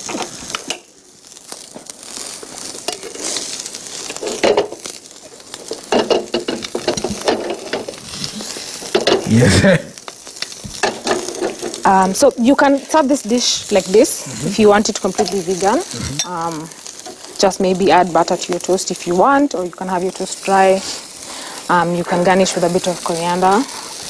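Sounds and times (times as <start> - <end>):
egg sizzling in a pan: 0.0 - 24.0.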